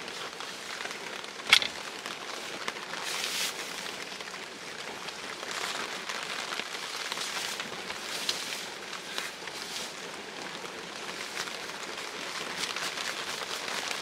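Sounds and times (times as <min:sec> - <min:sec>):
heavy rain on plastic sheet: 0:00.0 - 0:14.0
plastic poncho rustling: 0:00.0 - 0:14.0.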